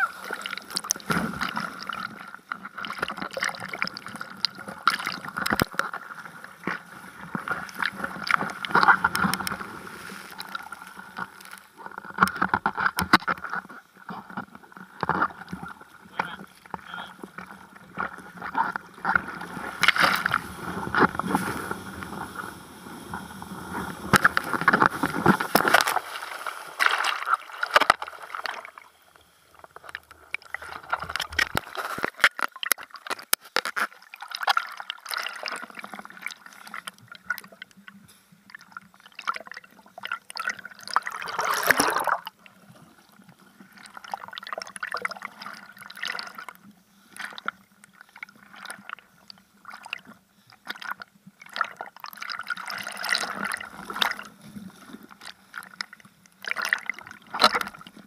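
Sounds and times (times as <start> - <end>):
seawater splashing and gurgling: 0.0 - 58.0.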